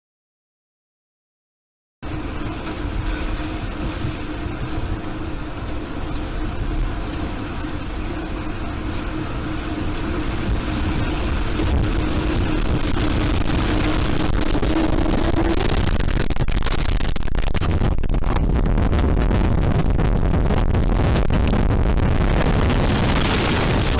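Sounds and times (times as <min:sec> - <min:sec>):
steady droning tone: 0:02.0 - 0:23.9
tornado winds roaring: 0:02.0 - 0:23.9.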